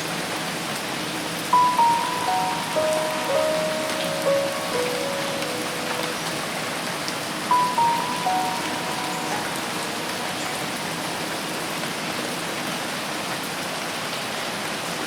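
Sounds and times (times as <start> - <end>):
rain falling on foliage: 0.0 - 15.0.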